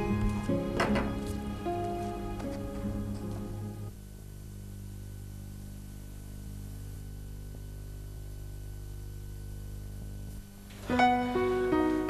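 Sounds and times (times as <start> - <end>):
electrical mains hum with hiss: 0.0 - 12.0.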